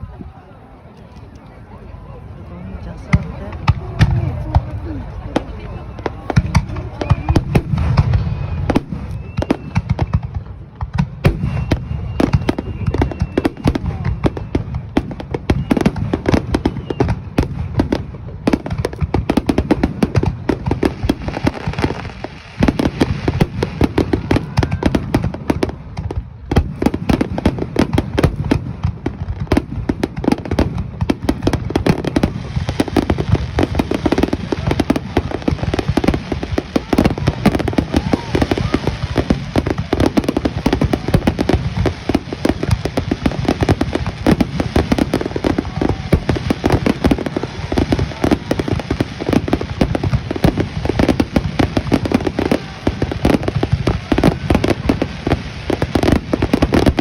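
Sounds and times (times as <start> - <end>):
fireworks bursting: 2.8 - 57.0.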